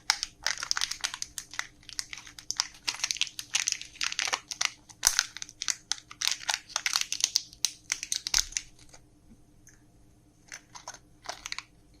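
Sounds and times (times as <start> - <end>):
candy wrappers crinkling: 0.0 - 9.0, 10.4 - 12.0.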